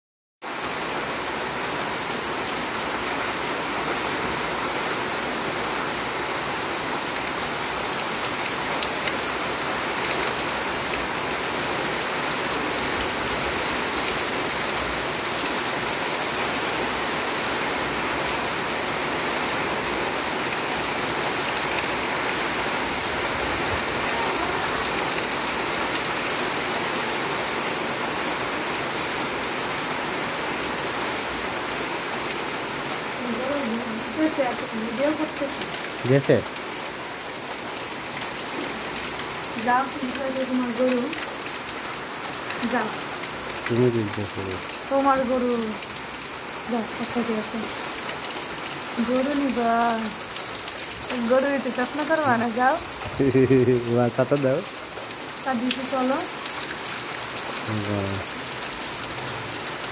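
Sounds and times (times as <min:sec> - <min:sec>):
heavy rain on a metal roof: 0:00.4 - 0:59.9.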